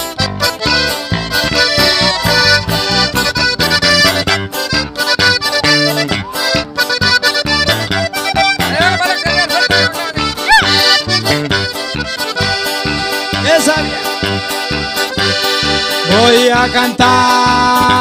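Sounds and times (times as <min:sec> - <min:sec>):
accordion-led band playing: 0:00.0 - 0:18.0
pulsing bass line: 0:00.0 - 0:18.0.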